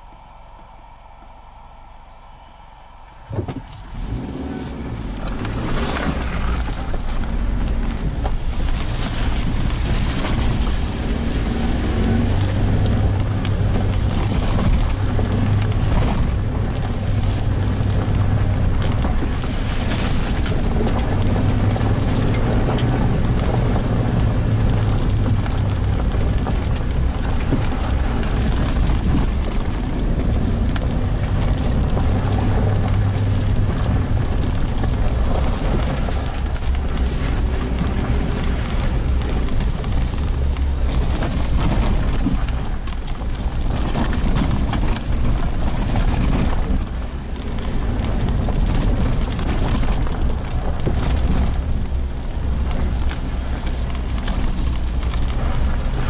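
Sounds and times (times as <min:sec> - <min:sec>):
car engine drone: 0:00.0 - 0:56.0
knocks and crackles from dirt road: 0:03.3 - 0:56.0
tyre and body noise: 0:03.3 - 0:56.0.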